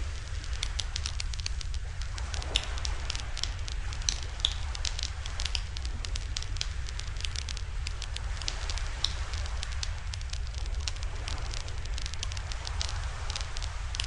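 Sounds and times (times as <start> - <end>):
steady low rumble: 0.0 - 14.0
wood fire crackling: 0.0 - 14.0.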